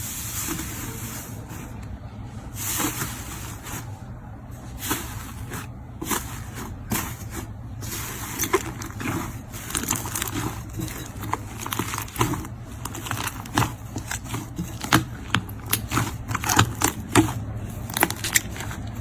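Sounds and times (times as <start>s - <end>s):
slime squelching: 0.0s - 19.0s
steady low hum: 0.0s - 19.0s.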